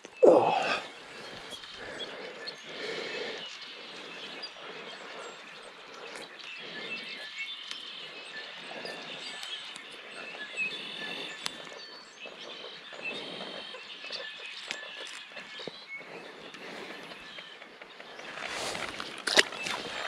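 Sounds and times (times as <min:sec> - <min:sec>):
birds chirping: 0:00.0 - 0:20.0
rushing outdoor background: 0:00.0 - 0:20.0.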